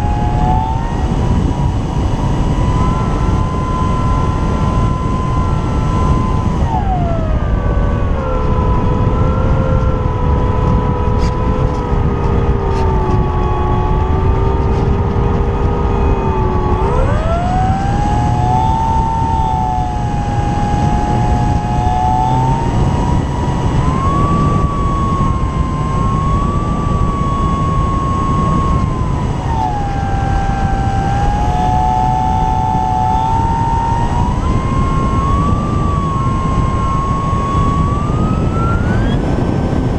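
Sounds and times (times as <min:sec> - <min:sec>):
model plane motor whining: 0:00.0 - 0:39.9
wind rush: 0:00.0 - 0:39.9.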